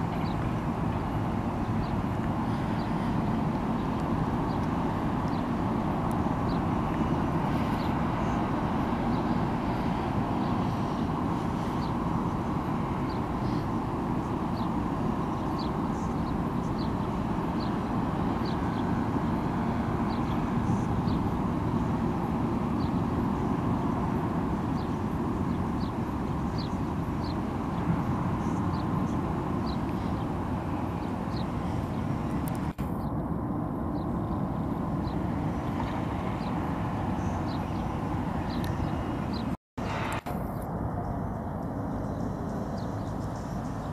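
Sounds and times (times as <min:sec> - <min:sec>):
low outdoor rumble: 0:00.0 - 0:43.9.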